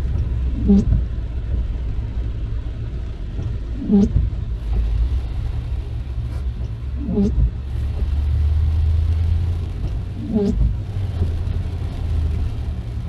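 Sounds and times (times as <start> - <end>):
windscreen wiper squeaking: 0.0 - 1.8, 3.3 - 13.0
tyre rumble on wet road: 0.0 - 13.0.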